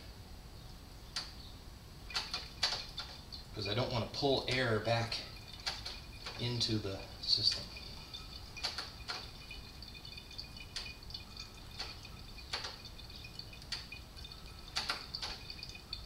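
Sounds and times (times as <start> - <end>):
fluid dripping into bottle: 2.1 - 16.0.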